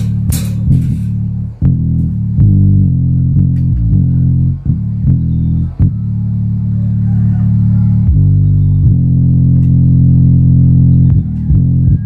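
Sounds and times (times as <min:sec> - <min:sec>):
loud bass-heavy music: 0:00.0 - 0:12.0.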